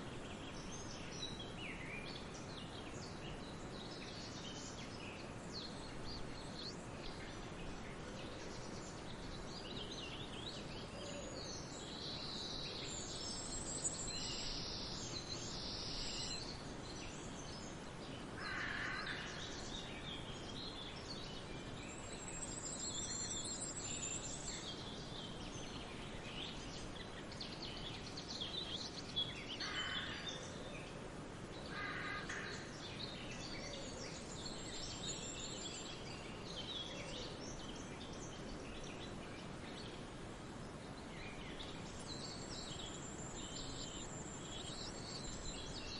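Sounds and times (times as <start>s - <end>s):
forest birds singing: 0.0s - 45.9s.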